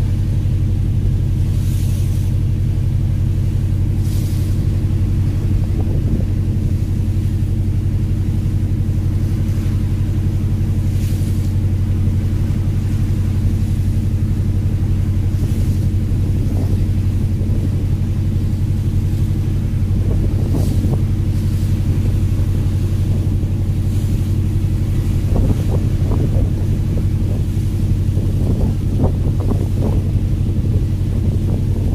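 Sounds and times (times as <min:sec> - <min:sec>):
boat diesel engine droning: 0:00.0 - 0:31.9.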